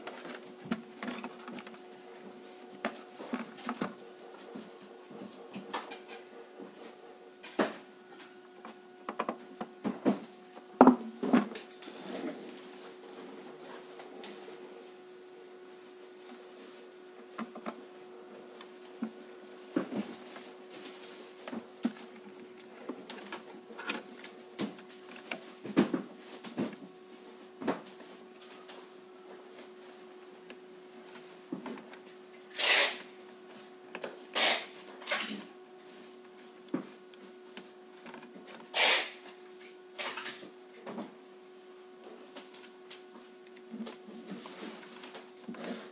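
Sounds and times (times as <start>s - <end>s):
faint hum: 0.0s - 45.9s.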